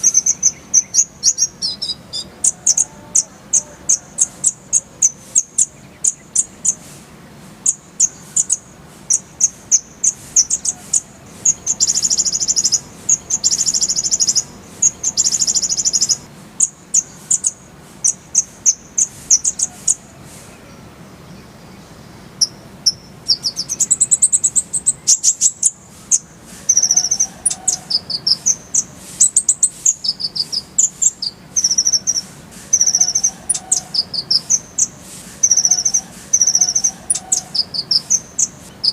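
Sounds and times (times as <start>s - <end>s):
sunbird singing: 0.0s - 38.9s.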